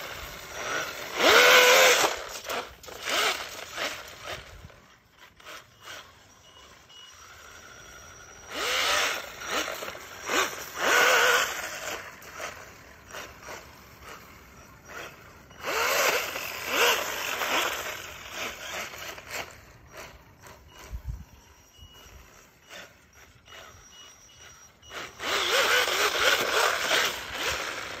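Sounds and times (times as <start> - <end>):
toy snowmobile motor whining: 0.0 - 28.0.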